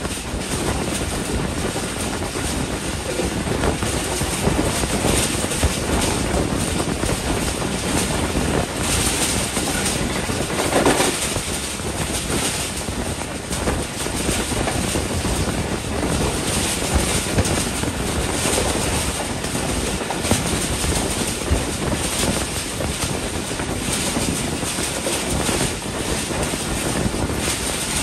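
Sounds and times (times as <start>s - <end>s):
train wheels rushing on rails: 0.0s - 28.0s
wind noise: 0.0s - 28.0s.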